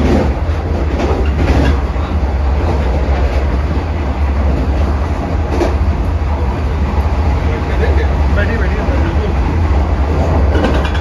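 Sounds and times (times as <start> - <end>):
electric train humming: 0.0 - 11.0
wheels clacking over rails: 0.0 - 11.0.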